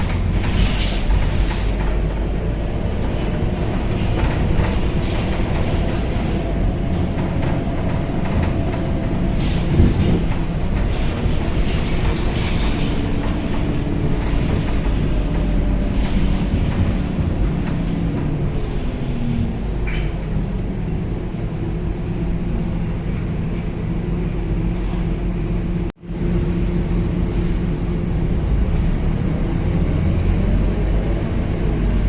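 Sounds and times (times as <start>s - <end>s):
bus engine running: 0.0s - 32.0s
rumble and rattle of ride: 0.0s - 32.0s.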